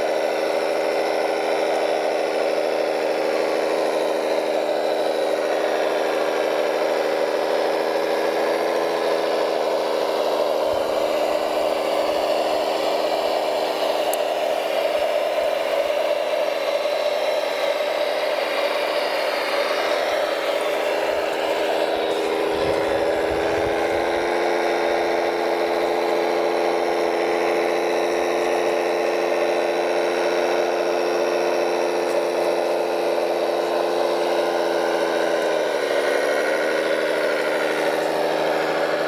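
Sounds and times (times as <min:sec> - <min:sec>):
electric motors whining: 0:00.0 - 0:39.0.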